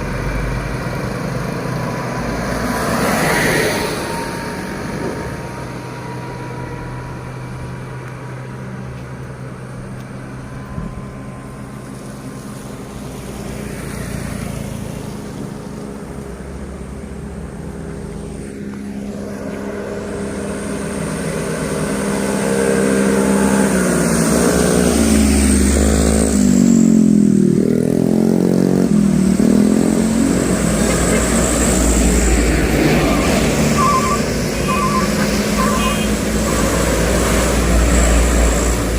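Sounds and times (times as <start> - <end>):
diesel truck engines labouring: 0.0 - 38.9.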